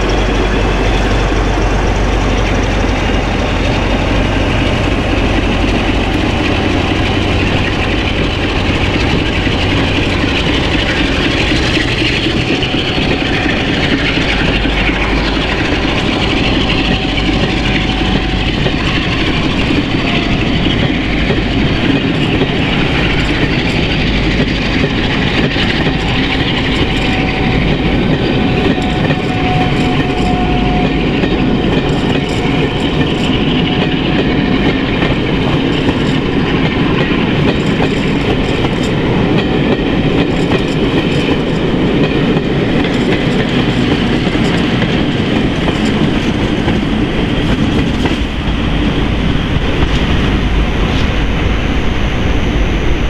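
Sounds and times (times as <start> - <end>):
train wheels rolling on rails: 0.0 - 53.0.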